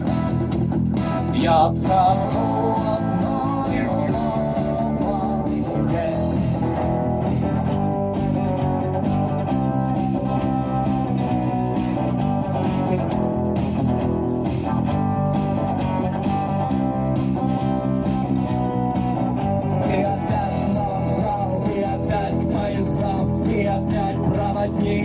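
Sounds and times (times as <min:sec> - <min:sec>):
rock guitars and bass: 0:00.0 - 0:25.0.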